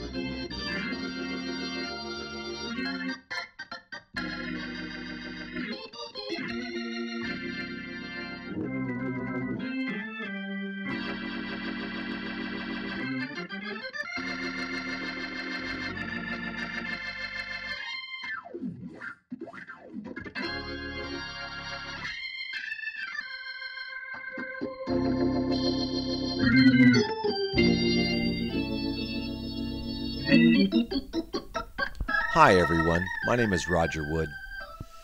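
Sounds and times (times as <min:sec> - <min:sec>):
organ playing held chords: 0:00.0 - 0:18.0, 0:20.4 - 0:34.6.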